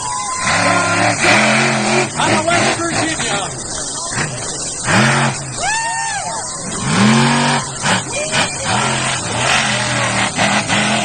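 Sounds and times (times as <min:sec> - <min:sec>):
loud arena noise: 0:00.0 - 0:11.0
truck engine revving: 0:00.0 - 0:11.0.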